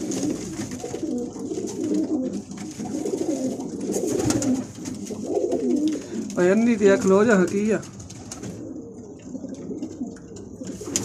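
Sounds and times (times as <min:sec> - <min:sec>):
pigeons cooing: 0:00.0 - 0:07.1, 0:08.1 - 0:11.0.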